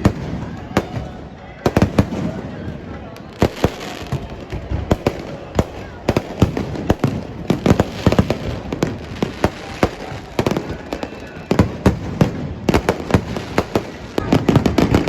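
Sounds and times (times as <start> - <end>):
firecrackers cracking and banging: 0.0 - 15.0.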